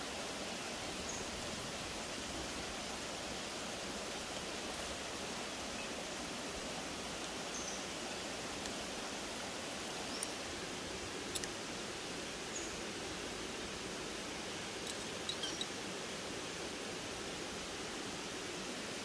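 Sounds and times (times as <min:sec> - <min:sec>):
forest stream rushing: 0:00.0 - 0:19.0.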